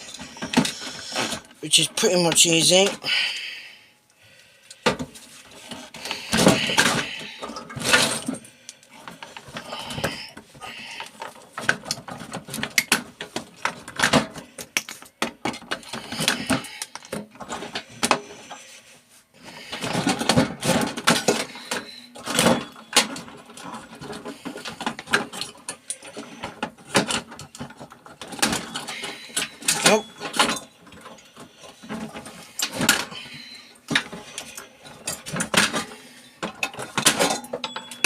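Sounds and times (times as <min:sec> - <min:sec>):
plastic and metal parts clicking and rattling: 0:00.0 - 0:03.1, 0:04.6 - 0:18.7, 0:19.4 - 0:38.0.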